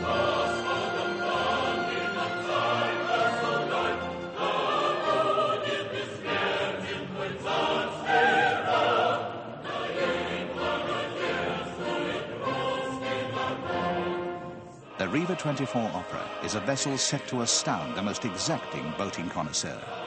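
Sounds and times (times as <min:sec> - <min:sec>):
operatic music with singing: 0:00.0 - 0:20.0.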